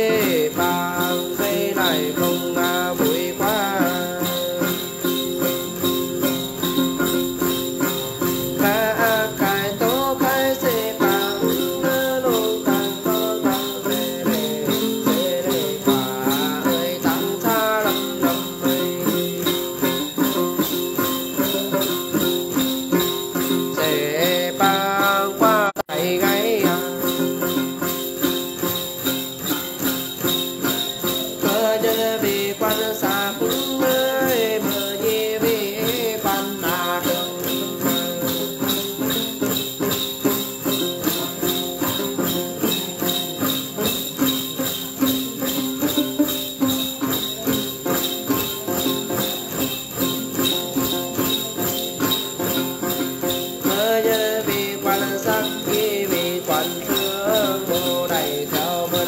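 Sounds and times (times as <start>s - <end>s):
jingle bells shaken rhythmically: 0.0s - 59.0s
person singing: 0.0s - 59.0s.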